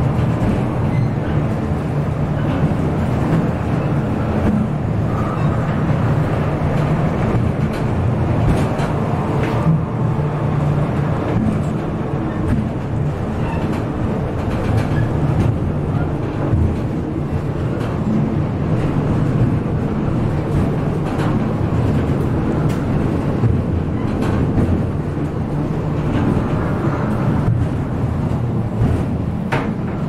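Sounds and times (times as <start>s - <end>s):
funicular car rumbling on rails: 0.0s - 30.0s.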